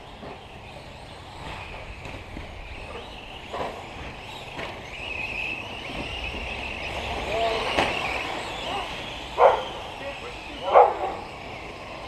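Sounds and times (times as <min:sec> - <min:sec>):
cars knocking: 0:00.0 - 0:12.0
rc car motors whining: 0:00.0 - 0:12.0.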